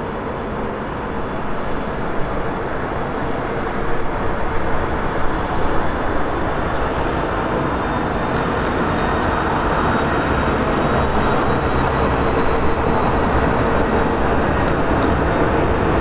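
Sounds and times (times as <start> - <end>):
electric locomotive hum and rumble: 0.0 - 16.0.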